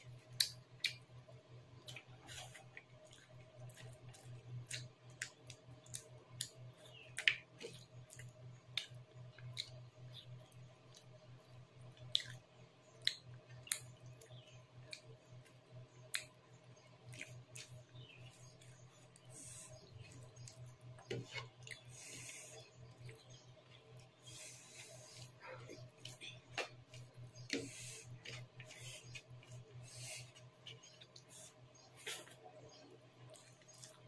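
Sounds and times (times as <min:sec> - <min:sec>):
wet chewing and lip smacks: 0:00.1 - 0:01.2, 0:01.8 - 0:34.0.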